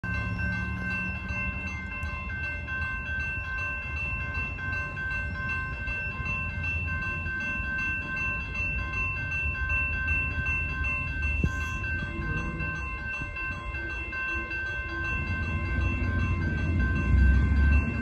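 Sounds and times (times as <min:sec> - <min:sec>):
crossing warning bell ringing: 0:00.0 - 0:18.0.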